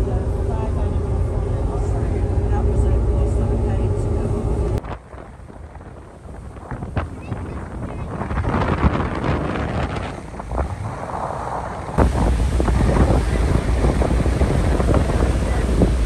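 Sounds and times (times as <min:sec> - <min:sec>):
churning wake: 0:00.0 - 0:16.0
rushing water: 0:00.0 - 0:16.0
wind buffeting microphone: 0:00.0 - 0:16.0.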